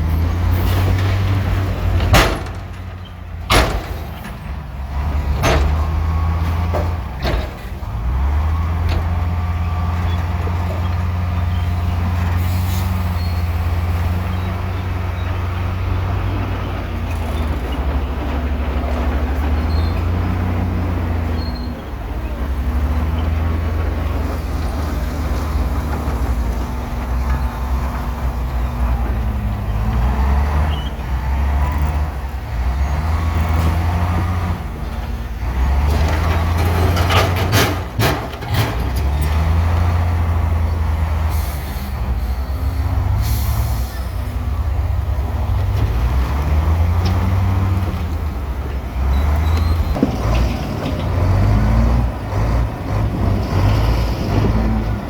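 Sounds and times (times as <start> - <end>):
heavy diesel engines working: 0.0 - 55.0.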